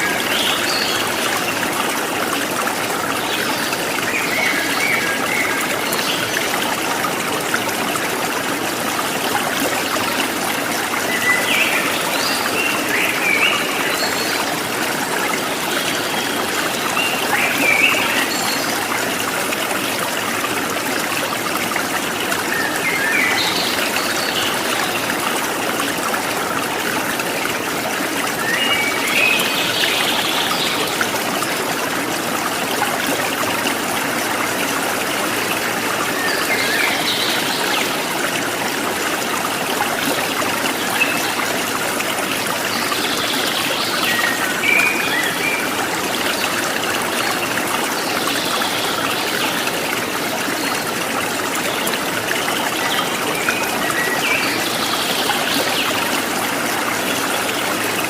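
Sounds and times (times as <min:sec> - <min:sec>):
stream of water trickling: 0:00.0 - 0:58.0.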